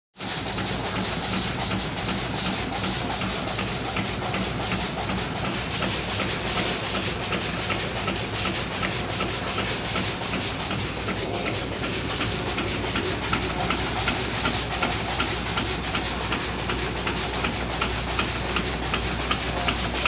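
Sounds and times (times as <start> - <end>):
rhythmic steam hiss: 0.2 - 20.0.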